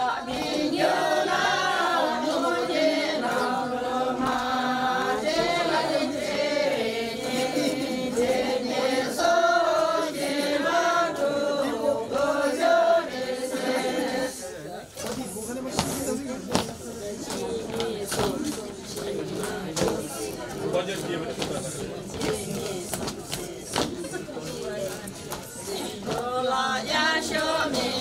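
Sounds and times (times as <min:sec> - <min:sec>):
group of voices singing: 0:00.0 - 0:28.0.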